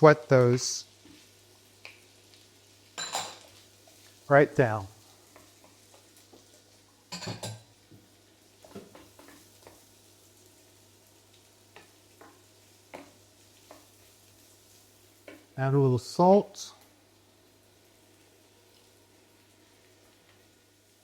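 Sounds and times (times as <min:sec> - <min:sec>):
vegetables sizzling in a frying pan: 0:00.0 - 0:21.0.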